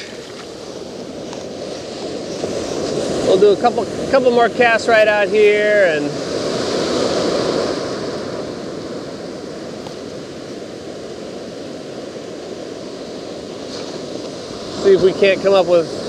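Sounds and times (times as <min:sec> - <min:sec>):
ocean surf washing in: 0:00.0 - 0:16.0.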